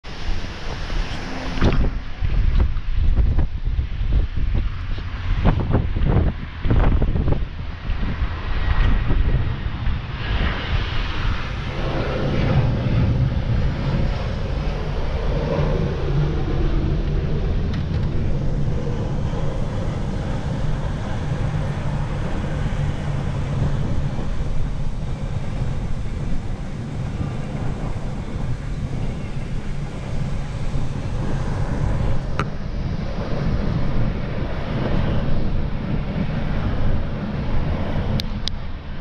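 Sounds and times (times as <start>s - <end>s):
jet engines passing overhead: 0.0s - 39.0s
road and wind noise in car: 0.0s - 39.0s.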